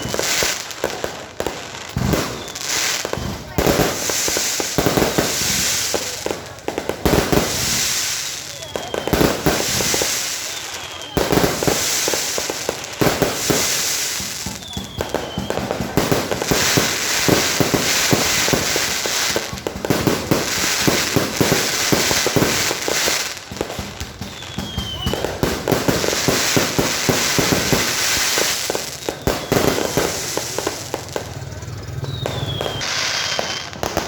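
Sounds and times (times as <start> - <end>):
fireworks cracking: 0.0 - 34.0
fireworks falling whistles: 0.0 - 34.0.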